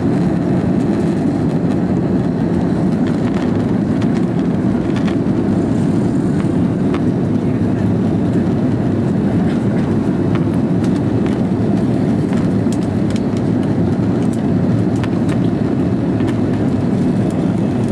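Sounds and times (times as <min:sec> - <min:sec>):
airplane cabin engine drone: 0:00.0 - 0:17.9.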